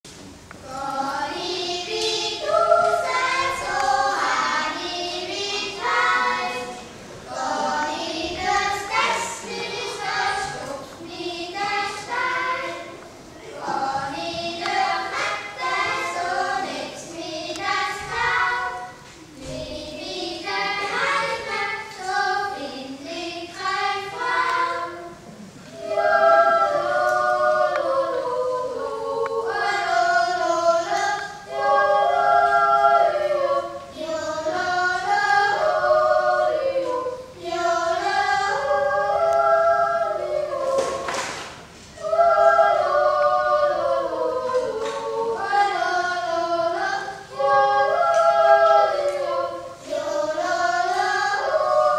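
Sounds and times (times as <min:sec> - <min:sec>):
young voices singing a cappella: 0:00.0 - 0:51.9.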